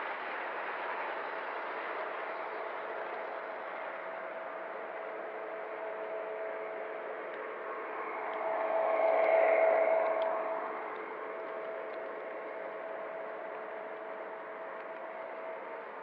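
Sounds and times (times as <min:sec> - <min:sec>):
wheels rolling on track: 0:00.0 - 0:16.0.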